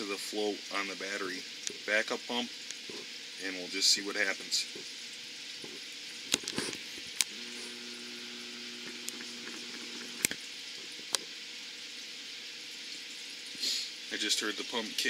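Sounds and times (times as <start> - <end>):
room tone hiss: 0.0 - 15.0.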